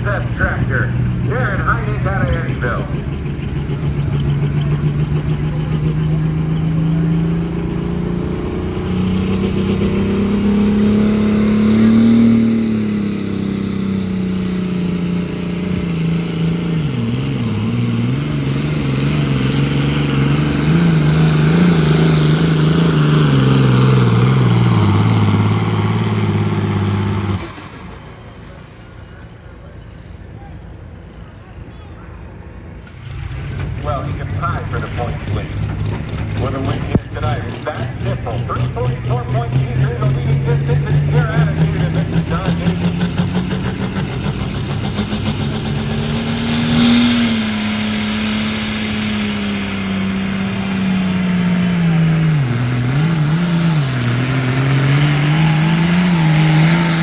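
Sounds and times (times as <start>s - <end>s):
tractor engine revving hard: 0.0s - 31.0s, 32.6s - 57.0s.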